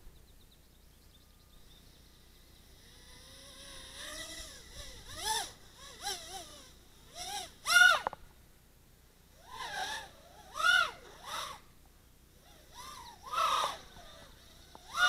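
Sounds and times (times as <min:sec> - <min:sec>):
drone motors whining: 0:01.0 - 0:08.3, 0:09.3 - 0:15.0.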